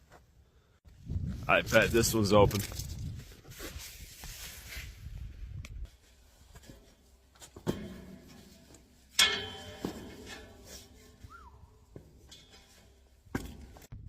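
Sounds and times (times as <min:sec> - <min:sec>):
rustling and shuffling: 0:00.0 - 0:14.0.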